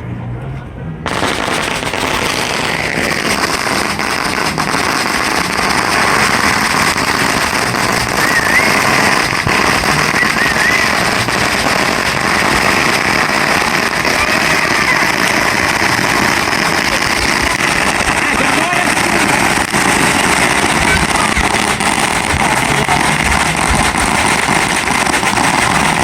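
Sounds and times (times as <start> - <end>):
fireworks crackling: 1.0 - 26.0
firework whistles: 1.1 - 26.0.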